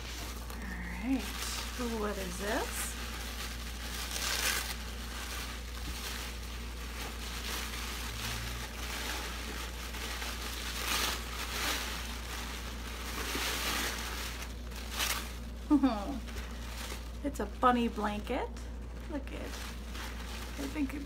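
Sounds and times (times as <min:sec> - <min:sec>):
tissue paper crinkling: 0:00.0 - 0:21.0.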